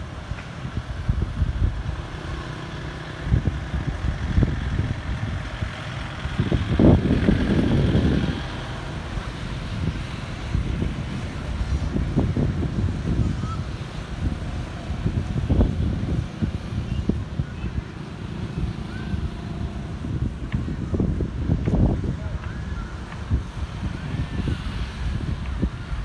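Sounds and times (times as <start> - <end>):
motorbikes and cars passing: 0.0 - 26.0.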